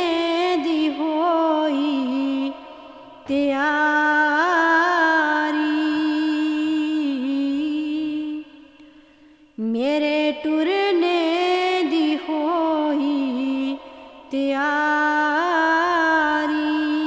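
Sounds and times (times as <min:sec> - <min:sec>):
woman singing devotional song: 0:00.0 - 0:17.0.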